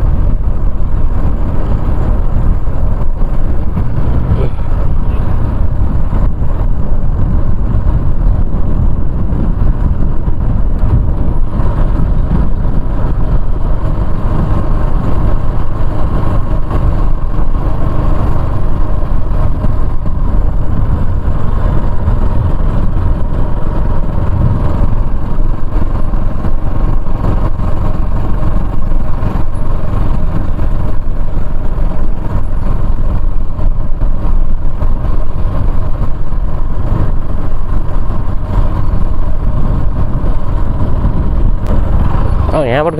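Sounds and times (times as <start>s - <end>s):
motorcycle engine running: 0.0s - 42.9s
wind rumble on microphone: 0.0s - 42.9s.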